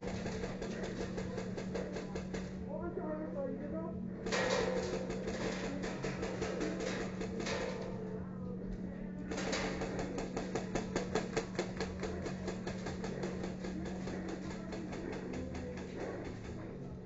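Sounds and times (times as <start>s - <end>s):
airsoft guns firing: 0.0s - 2.7s, 4.2s - 8.1s, 9.2s - 16.7s
steady low hum: 0.0s - 17.0s.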